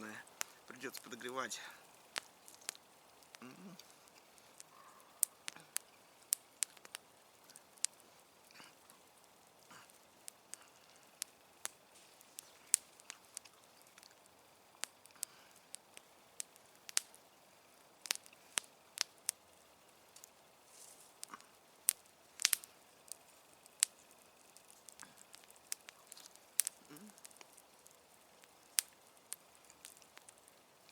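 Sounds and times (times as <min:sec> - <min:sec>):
campfire crackling: 0:00.0 - 0:30.9
faint background hiss: 0:00.0 - 0:30.9.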